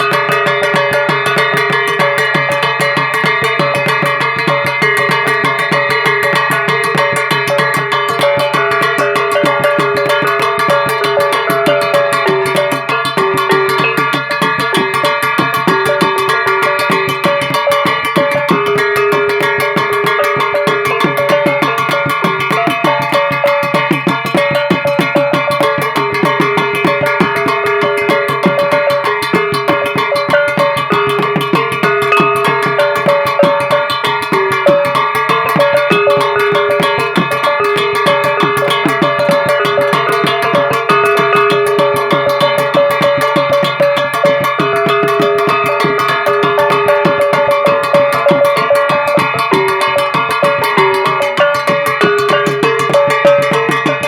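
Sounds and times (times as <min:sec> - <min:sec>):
fast percussion beat: 0:00.0 - 0:54.0
steady melodic tones: 0:00.0 - 0:54.0.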